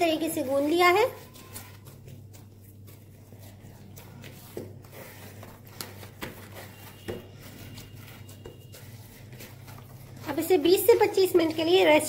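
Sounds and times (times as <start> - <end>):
hands kneading dough: 0.0 - 12.0.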